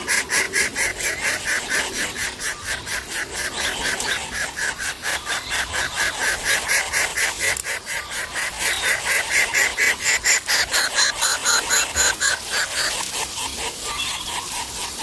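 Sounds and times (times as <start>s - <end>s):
nestling birds begging calls: 0.0s - 15.0s.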